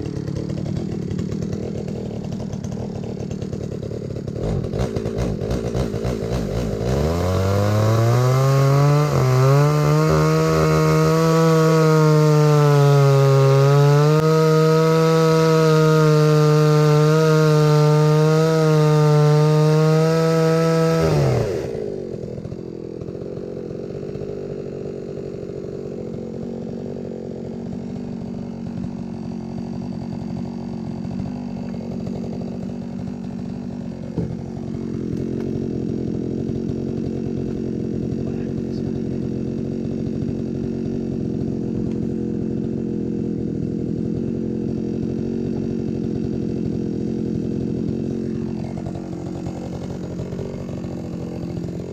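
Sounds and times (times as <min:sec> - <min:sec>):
chainsaw running and idling: 0:00.0 - 0:51.9.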